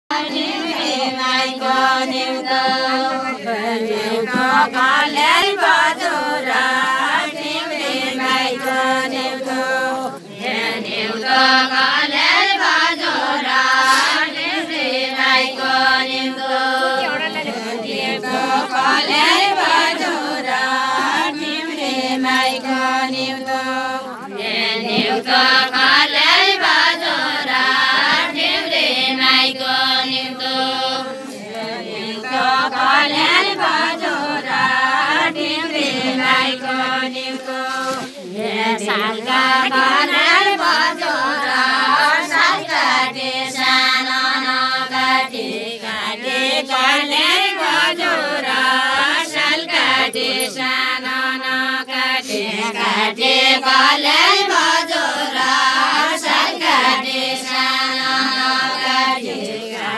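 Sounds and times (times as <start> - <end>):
women singing in unison: 0.0 - 59.9.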